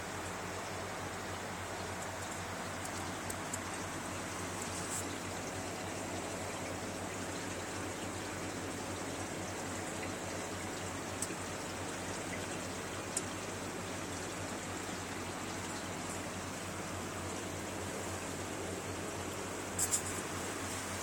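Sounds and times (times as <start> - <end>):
aquarium bubbling water: 0.0 - 21.0
low steady hum: 0.0 - 21.0.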